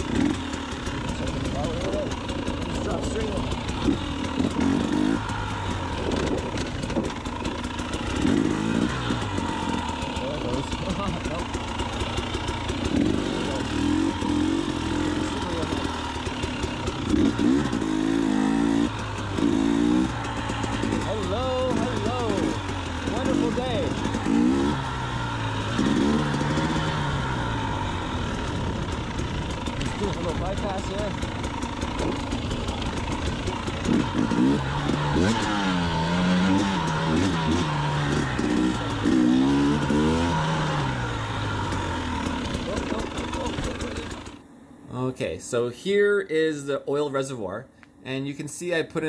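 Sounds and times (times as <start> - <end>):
two-stroke motorcycle engine revving: 0.0 - 44.8.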